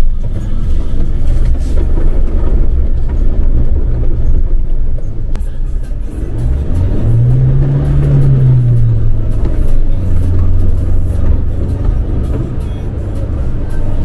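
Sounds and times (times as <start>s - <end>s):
background music: 0.0s - 14.0s
road noise: 0.0s - 14.0s
vehicle engine rumble: 0.0s - 14.0s.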